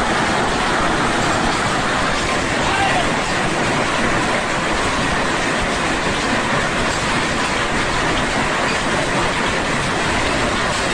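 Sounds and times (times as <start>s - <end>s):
heavy hail and rain: 0.0s - 10.9s.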